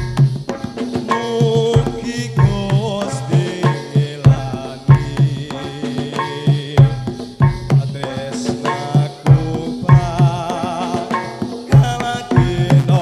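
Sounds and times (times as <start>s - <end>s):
hand drum rhythm: 0.0s - 13.0s.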